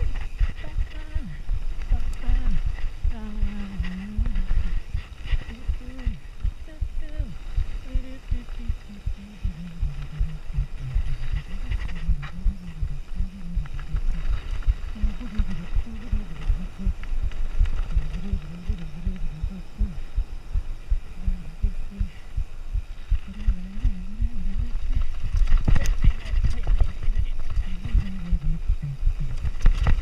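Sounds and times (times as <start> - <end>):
low wavering hum: 0.0 - 30.0.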